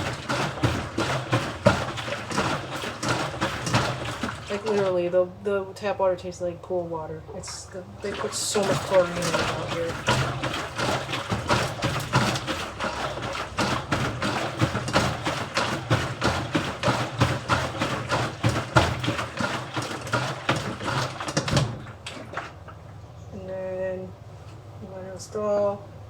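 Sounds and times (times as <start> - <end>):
water and clothes sloshing in drum: 0.0 - 26.0.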